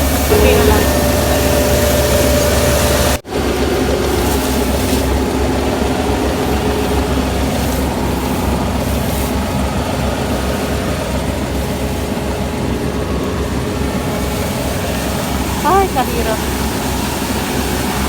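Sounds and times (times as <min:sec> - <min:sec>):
combine harvester engine drone: 0:00.0 - 0:18.0
harvesting machinery hum: 0:00.0 - 0:18.0.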